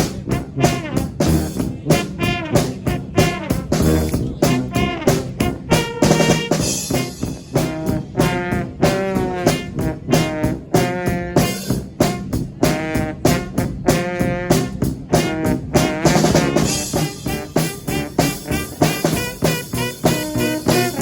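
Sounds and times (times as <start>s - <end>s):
brass band playing: 0.0s - 21.0s.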